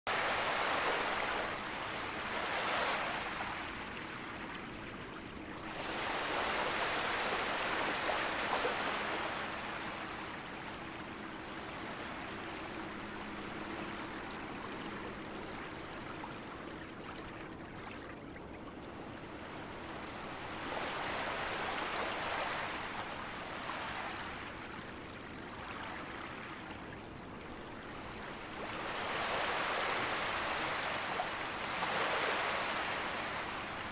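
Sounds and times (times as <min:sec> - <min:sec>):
sea waves lapping on a beach: 0:00.1 - 0:33.9.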